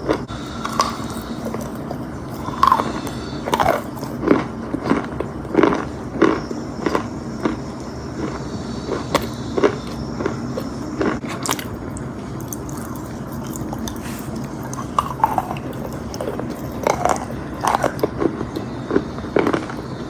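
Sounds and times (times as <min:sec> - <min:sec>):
crunchy chewing with crisp cracks: 0:00.0 - 0:20.0.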